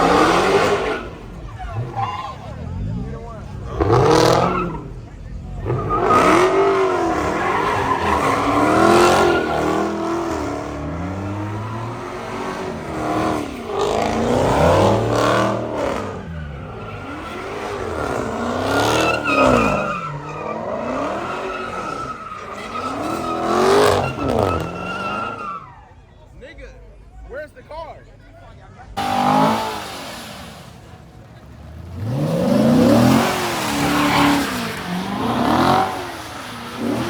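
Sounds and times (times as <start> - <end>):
car engine revving: 0.0 - 25.8, 29.0 - 37.0
tires squealing: 0.0 - 26.3, 29.0 - 37.0.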